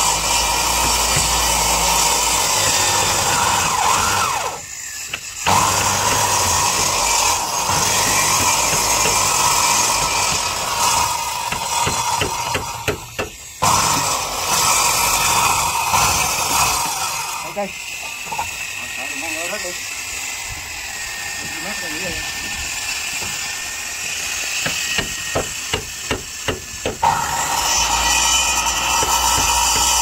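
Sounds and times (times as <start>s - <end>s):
power saw cutting wood: 0.0s - 30.0s.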